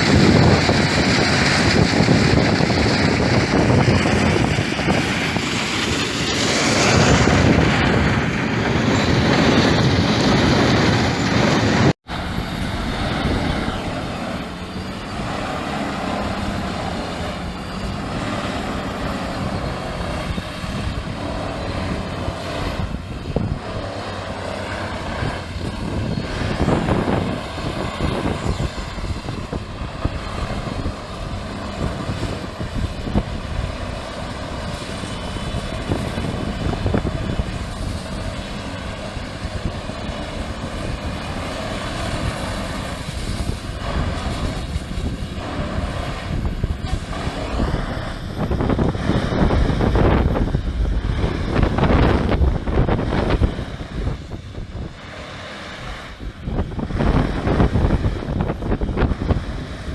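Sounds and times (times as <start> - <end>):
large engine running: 0.0 - 59.9.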